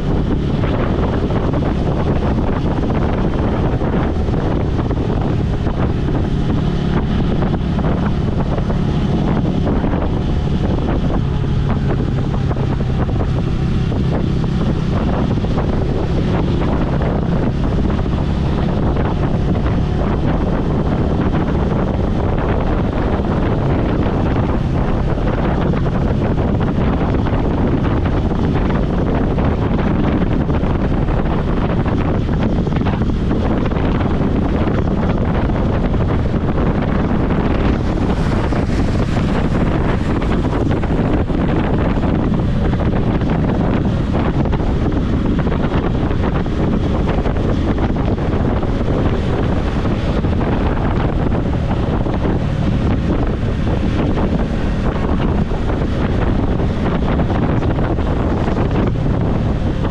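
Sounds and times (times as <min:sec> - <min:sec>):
motorcycle engine running: 0:00.0 - 0:59.9
wind buffeting the microphone: 0:00.0 - 0:59.9.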